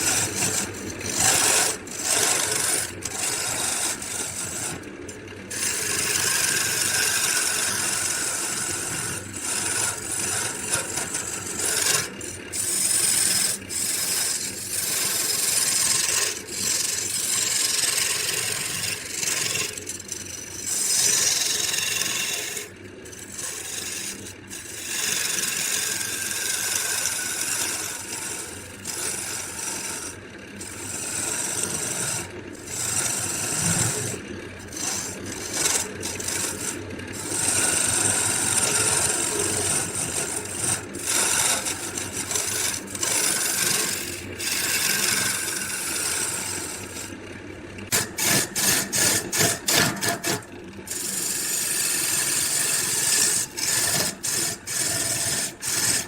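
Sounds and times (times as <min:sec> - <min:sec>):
wood being rasped by hand: 0:00.0 - 0:47.2, 0:47.9 - 0:56.0.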